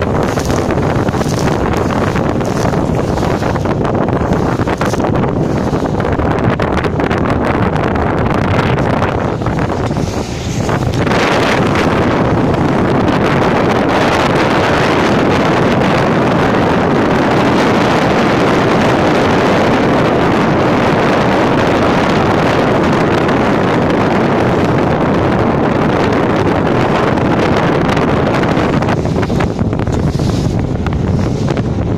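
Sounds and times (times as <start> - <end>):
water splashing along a hull: 0.0 - 31.9
wind buffeting microphone: 0.0 - 31.9.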